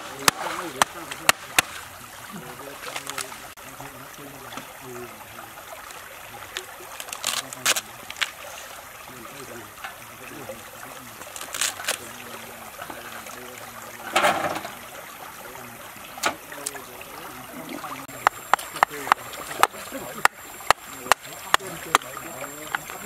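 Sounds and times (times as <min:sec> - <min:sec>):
stream trickling: 0:00.0 - 0:23.0.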